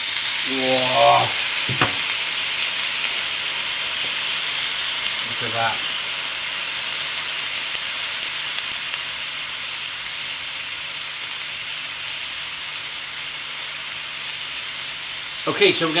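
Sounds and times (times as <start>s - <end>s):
burger patty sizzling on griddle: 0.0s - 16.0s.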